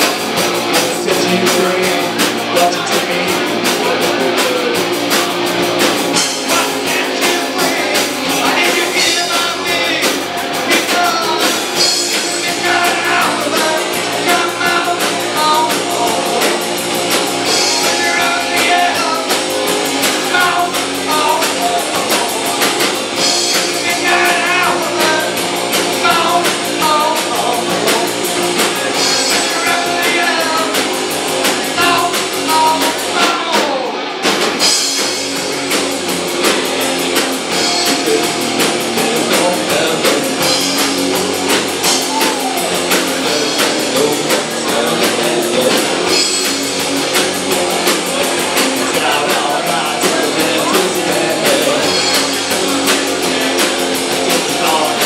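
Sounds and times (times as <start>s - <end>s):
person singing: 0.0s - 16.8s, 17.4s - 31.0s, 31.6s - 34.0s, 36.4s - 40.9s, 41.5s - 46.8s, 47.6s - 55.0s
drum kit: 0.0s - 55.0s
electric guitars: 0.0s - 55.0s.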